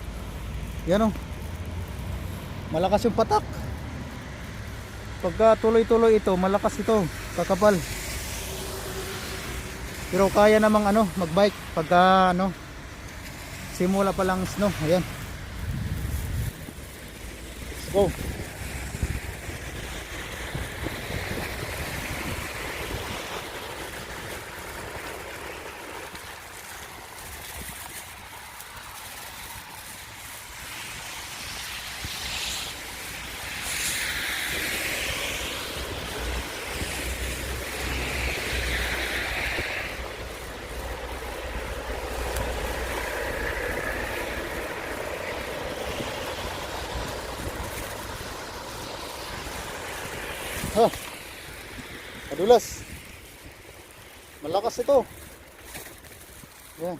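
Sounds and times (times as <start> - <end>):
traffic rumbling by: 0.0 - 56.9
wind and road noise: 0.0 - 56.9.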